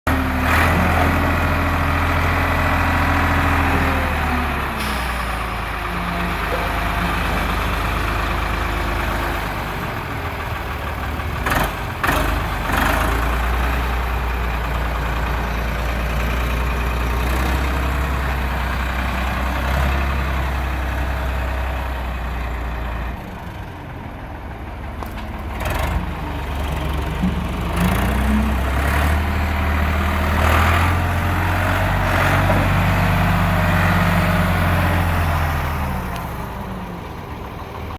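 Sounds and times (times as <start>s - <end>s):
tractor engine running: 0.1s - 37.9s.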